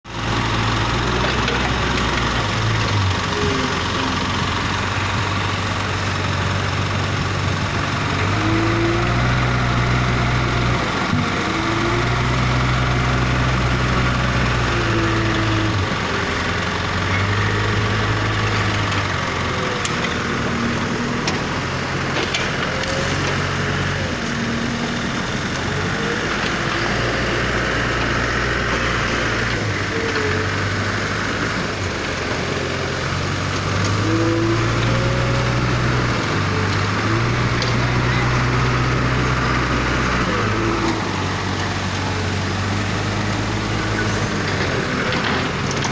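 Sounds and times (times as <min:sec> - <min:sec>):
diesel engine revving: 0:00.1 - 0:45.9.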